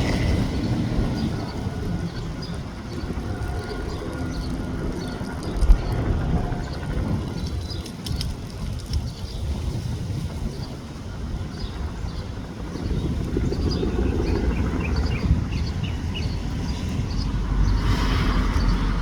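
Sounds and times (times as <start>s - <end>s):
helicopter rumble: 0.0s - 19.0s.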